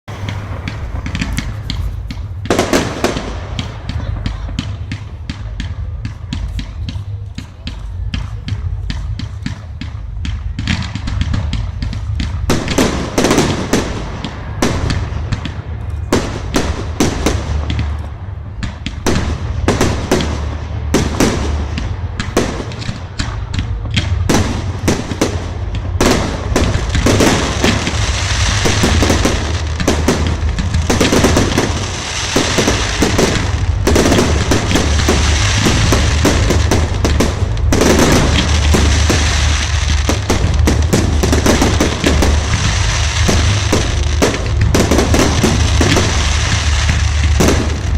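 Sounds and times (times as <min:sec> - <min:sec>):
fireworks bangs and crackles: 0:00.0 - 0:47.9
low rumble: 0:00.0 - 0:47.9.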